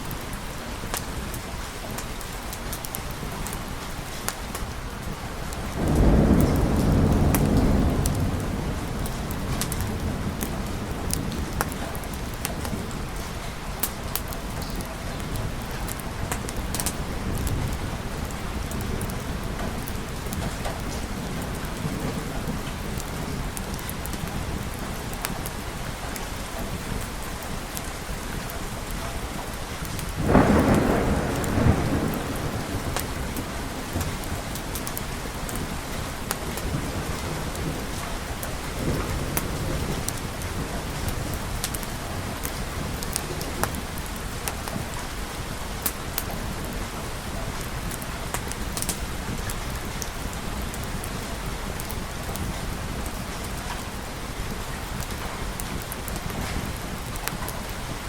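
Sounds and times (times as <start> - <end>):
steady rain: 0.0 - 58.0
sharp crackles: 0.1 - 58.0
thunder rumbling: 5.5 - 58.0.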